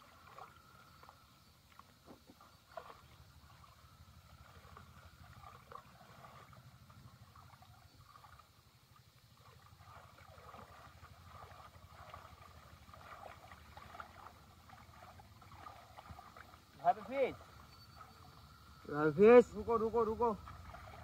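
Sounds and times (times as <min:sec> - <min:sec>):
pond water sloshing and splashing: 0:00.0 - 0:21.0
low steady rumble: 0:02.5 - 0:21.0.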